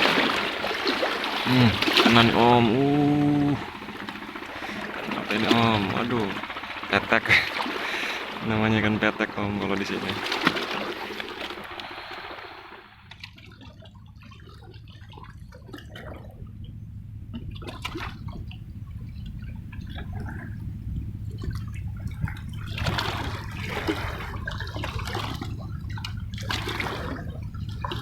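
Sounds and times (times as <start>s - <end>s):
steady low rumble: 0.0s - 13.1s, 13.8s - 28.0s
seawater splashing against rocks: 0.0s - 16.4s, 17.4s - 28.0s.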